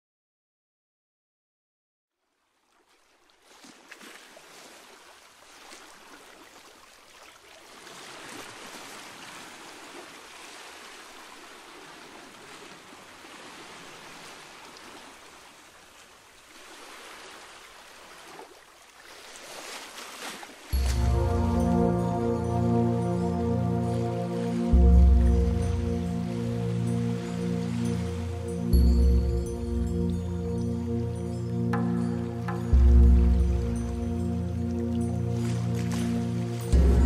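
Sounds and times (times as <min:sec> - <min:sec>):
rushing water: 0:02.3 - 0:37.0.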